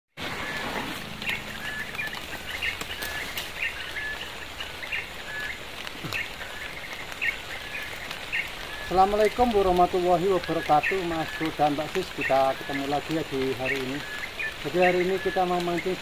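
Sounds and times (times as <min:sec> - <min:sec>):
birds chirping: 0:00.2 - 0:16.0
outdoor hiss: 0:00.2 - 0:16.0.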